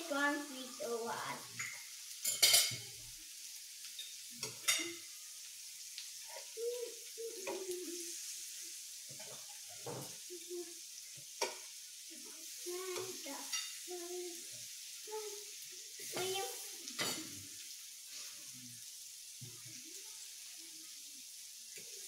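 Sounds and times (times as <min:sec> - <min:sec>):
meat sizzling on griddle: 0:00.0 - 0:22.0.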